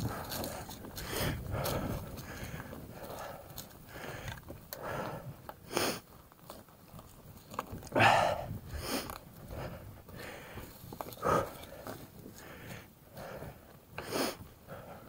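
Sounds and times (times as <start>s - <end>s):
rider breathing hard: 0.0s - 6.2s, 7.8s - 15.0s
bike rolling on dirt trail: 0.0s - 13.7s.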